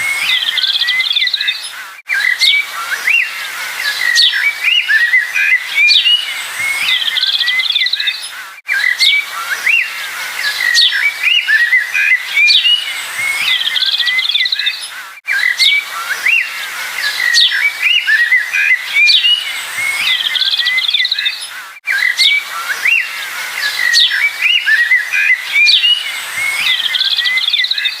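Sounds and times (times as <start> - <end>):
birds chirping and trilling: 0.0 - 28.0.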